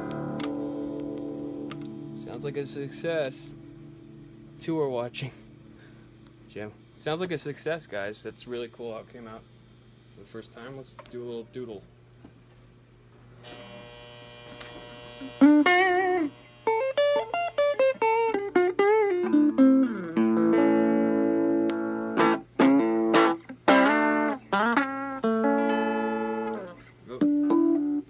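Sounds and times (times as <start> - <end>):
electric guitar through an amp: 0.0 - 9.4, 13.4 - 28.0.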